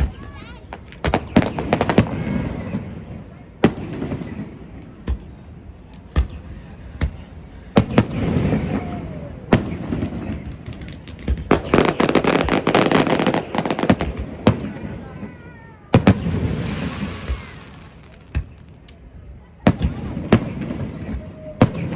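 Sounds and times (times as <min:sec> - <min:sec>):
fireworks bangs: 0:00.0 - 0:21.9
rapid fireworks crackling: 0:00.0 - 0:21.9.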